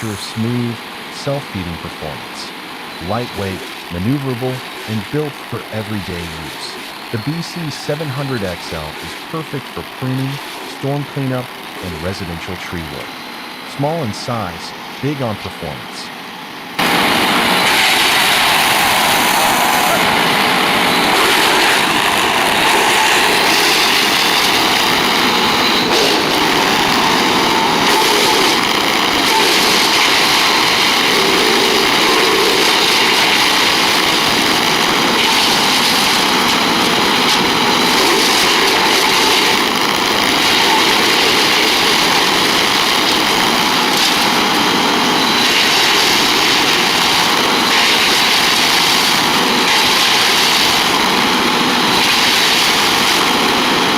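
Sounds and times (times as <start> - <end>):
wood chipper running: 0.0 - 53.9.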